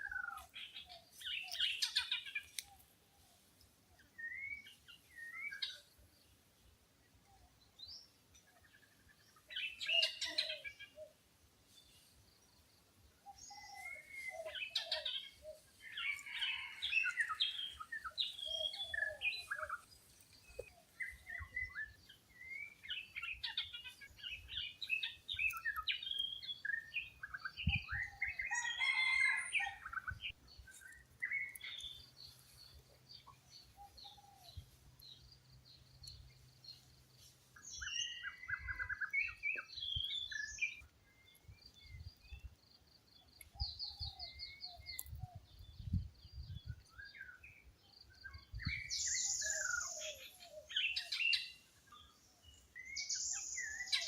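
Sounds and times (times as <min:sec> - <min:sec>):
wild birds chirping and singing: 0:00.0 - 0:54.0.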